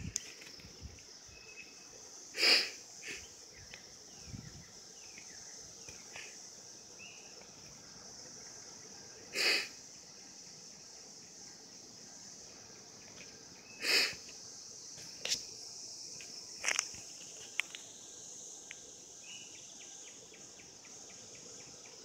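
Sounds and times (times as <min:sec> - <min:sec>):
cicada chorus drone: 0:00.0 - 0:22.0.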